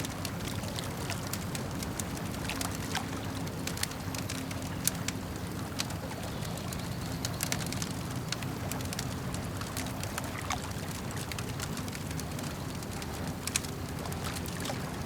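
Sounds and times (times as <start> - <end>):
campfire crackling: 0.0 - 15.0
lake water lapping: 0.0 - 15.0.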